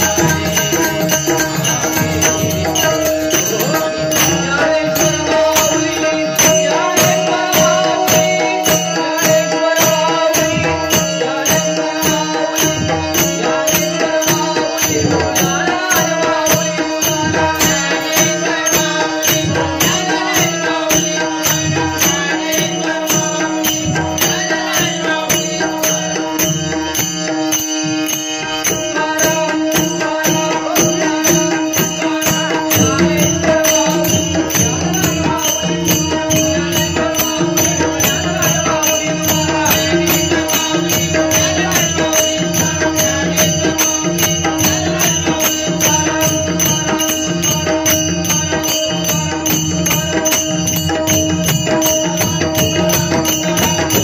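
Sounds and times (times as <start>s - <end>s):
men singing devotional song: 0.0s - 54.0s
percussion beat: 0.0s - 54.0s.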